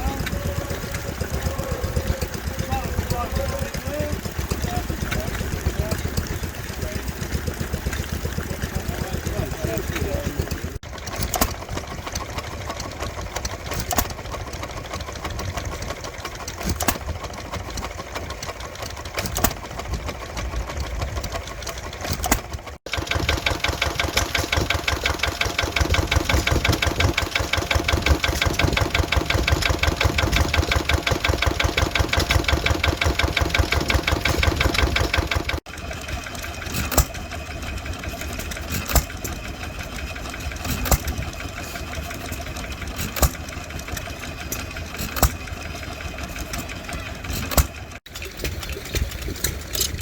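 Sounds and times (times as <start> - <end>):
engine running with fast beat: 0.0 - 48.1
engine running with sharp cracks: 0.0 - 50.0.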